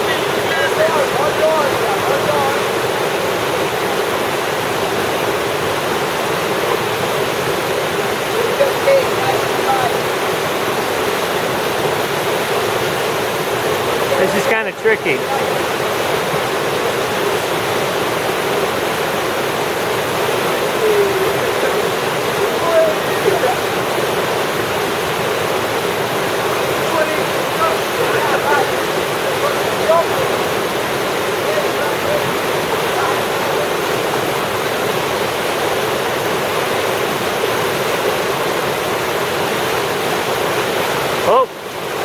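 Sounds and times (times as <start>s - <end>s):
river rushing: 0.0s - 42.0s.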